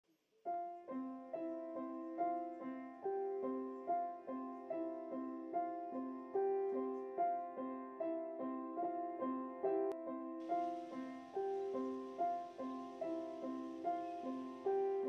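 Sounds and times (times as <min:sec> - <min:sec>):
piano music single notes: 0:00.5 - 0:15.0.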